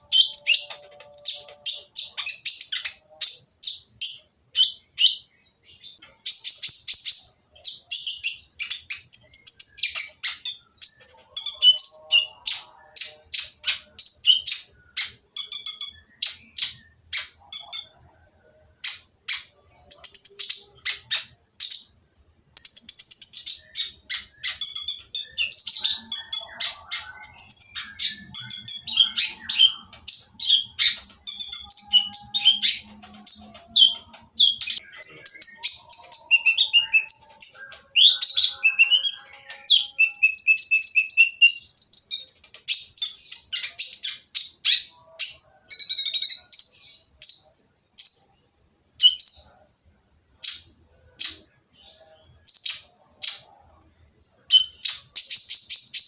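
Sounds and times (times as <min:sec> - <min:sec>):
bird singing harsh chirps: 0:00.0 - 0:48.3, 0:54.4 - 0:56.0.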